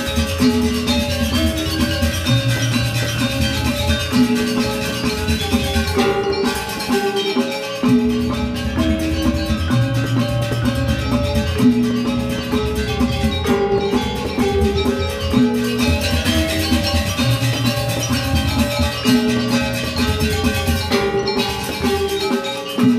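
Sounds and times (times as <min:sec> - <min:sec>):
hand drums: 0:00.0 - 0:22.9
metallophones ringing: 0:00.0 - 0:22.9.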